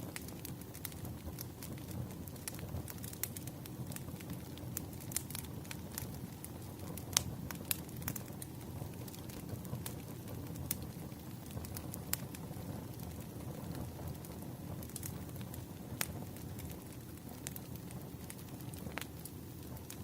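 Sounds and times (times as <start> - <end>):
firewood crackling: 0.0 - 20.0.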